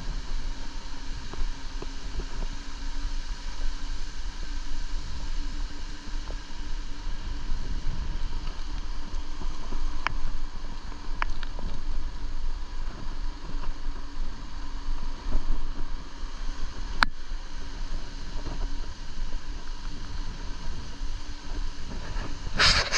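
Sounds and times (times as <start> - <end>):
wind buffeting microphone: 0.0 - 17.0, 17.6 - 22.9
faint steady hum: 0.0 - 22.9.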